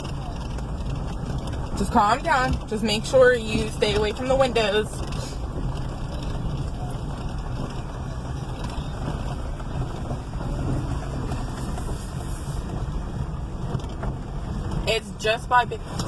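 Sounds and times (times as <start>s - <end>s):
road and wind noise in car: 0.0s - 16.0s.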